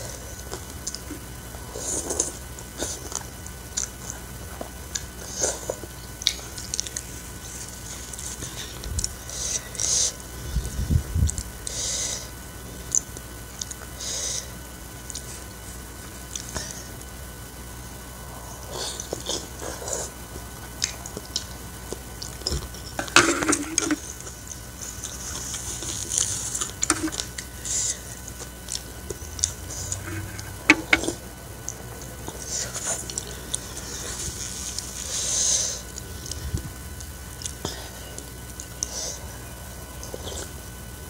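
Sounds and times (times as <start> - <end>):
person chewing noodles: 0.0 - 17.4, 18.4 - 40.7.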